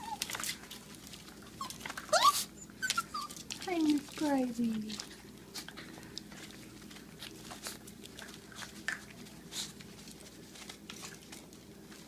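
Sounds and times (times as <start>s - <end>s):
dogs chewing food: 0.0s - 12.0s.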